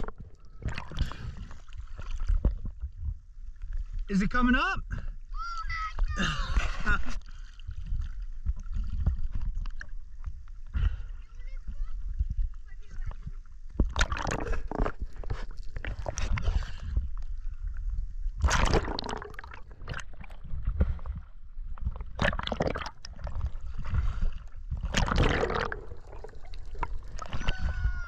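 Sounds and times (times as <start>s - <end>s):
sea water sloshing and gurgling: 0.0s - 4.1s, 4.9s - 28.0s.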